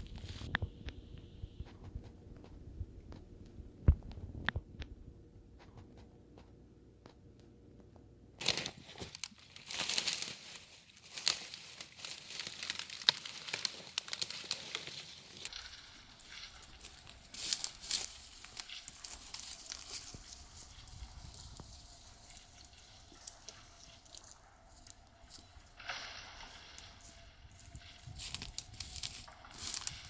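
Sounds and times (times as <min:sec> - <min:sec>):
crinkling handling sounds: 0:00.0 - 0:04.4, 0:08.4 - 0:30.0.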